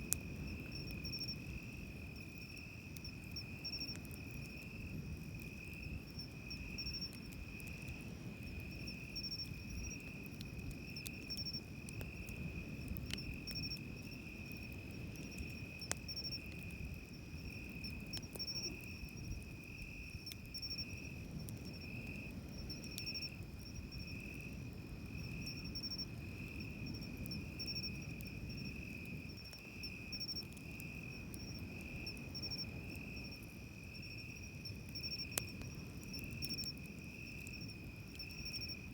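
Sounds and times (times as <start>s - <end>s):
campfire crackles: 0.0s - 38.9s
insects chirping: 0.0s - 38.9s.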